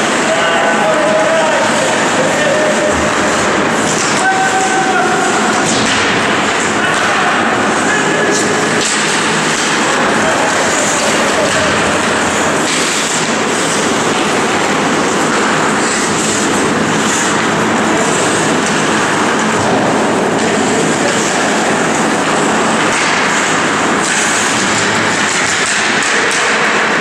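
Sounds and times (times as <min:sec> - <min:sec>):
reverberant ice hockey game din: 0:00.0 - 0:27.0
skate blades scraping ice: 0:00.0 - 0:27.0.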